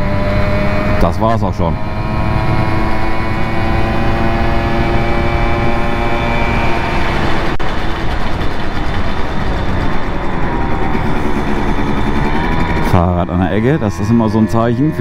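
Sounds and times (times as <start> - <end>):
moped engine running: 0.0 - 15.0.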